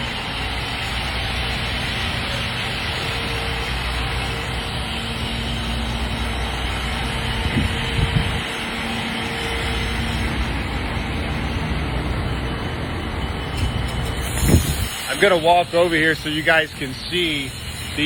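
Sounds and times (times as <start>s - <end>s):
city traffic noise: 0.0s - 18.0s
heavy vehicle engine running: 0.0s - 18.0s.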